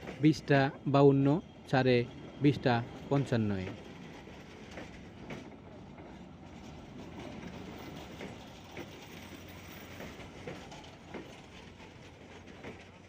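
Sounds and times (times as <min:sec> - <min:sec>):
faint train rumble: 0:00.0 - 0:13.0.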